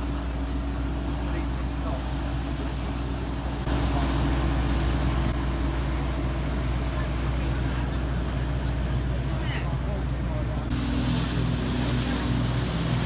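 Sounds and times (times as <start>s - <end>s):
boat engine humming: 0.0s - 13.0s
wind and water hiss: 0.0s - 13.0s.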